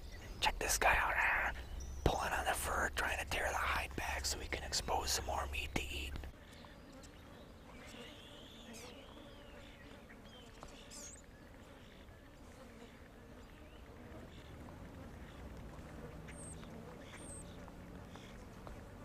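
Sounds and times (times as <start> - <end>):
distant songbird calls: 0.0 - 19.0.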